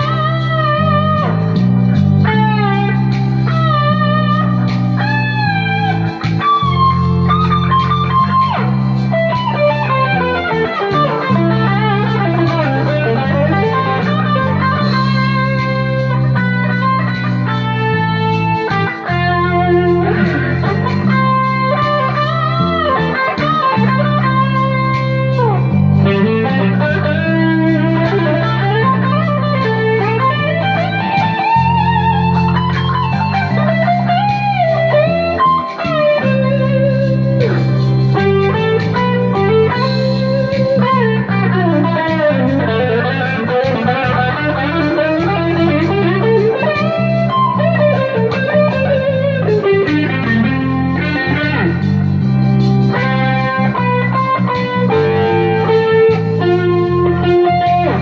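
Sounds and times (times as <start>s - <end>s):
backing track bass and chords: 0.0s - 58.0s
electric guitar lead solo: 0.0s - 58.0s.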